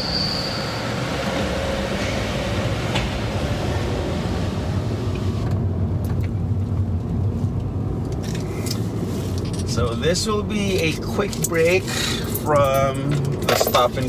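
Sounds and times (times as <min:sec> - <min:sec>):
road noise hiss: 0:00.0 - 0:13.2
car engine low hum: 0:00.0 - 0:14.0.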